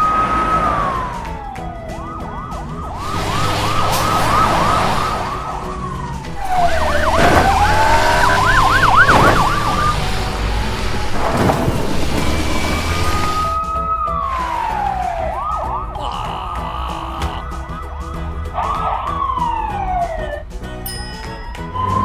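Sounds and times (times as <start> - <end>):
police siren: 0.0 - 16.0, 17.2 - 20.6, 21.6 - 22.0.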